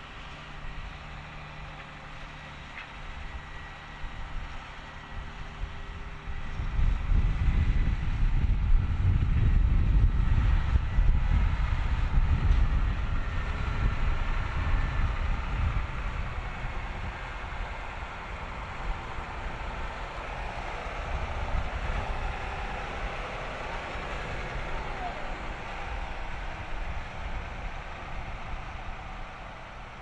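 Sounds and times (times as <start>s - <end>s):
tractor engine rumbling under load: 0.0s - 30.0s.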